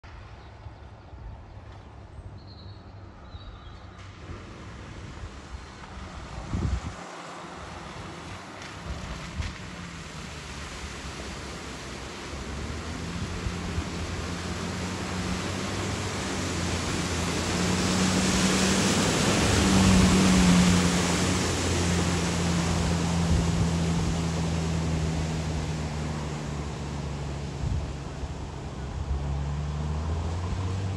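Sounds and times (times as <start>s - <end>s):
car engine droning: 3.2s - 30.9s
tyres splashing through water: 4.0s - 30.9s.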